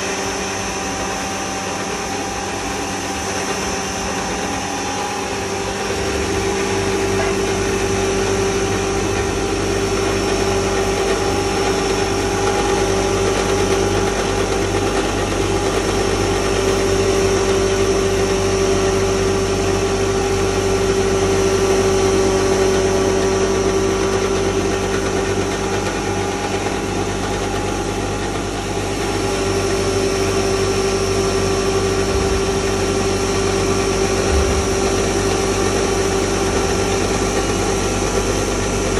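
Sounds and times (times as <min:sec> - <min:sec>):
grinding mill humming: 0:00.0 - 0:38.9.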